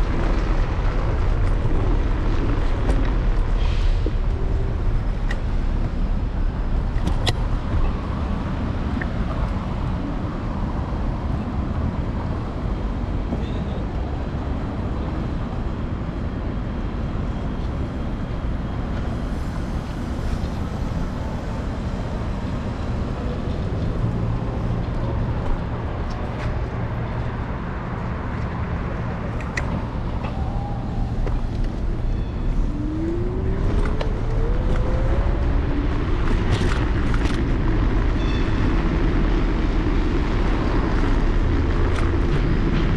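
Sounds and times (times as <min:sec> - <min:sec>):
city street traffic: 0:00.0 - 0:42.9
road rumble: 0:00.0 - 0:42.9
vehicle engine hum: 0:00.0 - 0:42.9.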